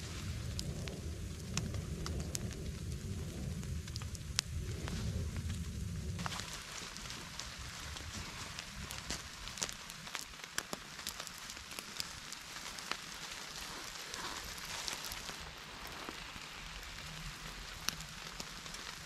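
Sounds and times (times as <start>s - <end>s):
campfire crackling and popping: 0.0s - 19.0s
steady fire hiss: 0.0s - 19.0s.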